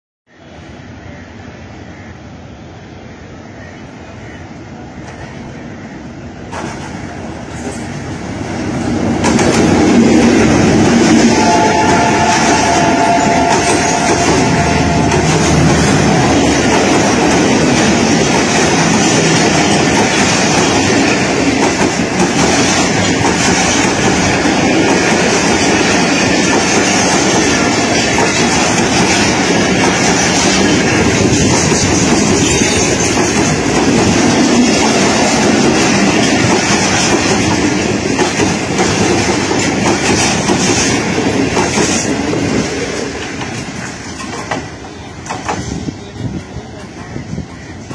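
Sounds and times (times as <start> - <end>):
train wheels rushing on rails: 0.4 - 47.9
clickety-clack over rail joints: 6.4 - 8.2, 8.8 - 47.9.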